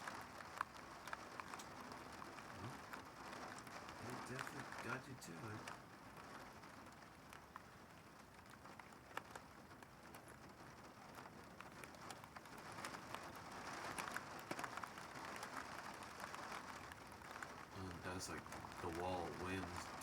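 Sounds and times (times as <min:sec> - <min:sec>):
heavy rain falling: 0:00.0 - 0:20.0
raindrops ticking sharply: 0:00.0 - 0:20.0.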